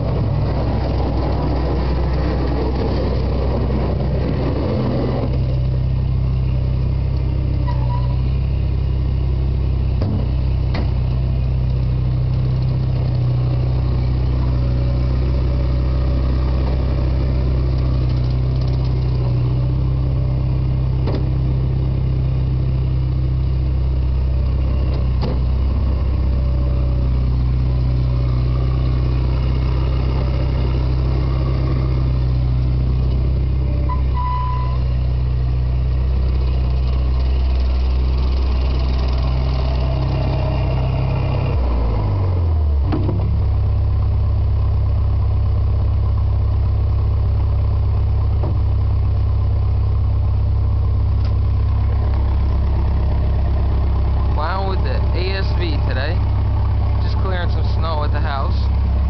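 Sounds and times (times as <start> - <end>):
low engine hum: 0.0 - 59.0
skid steer mechanical noise: 0.0 - 59.0.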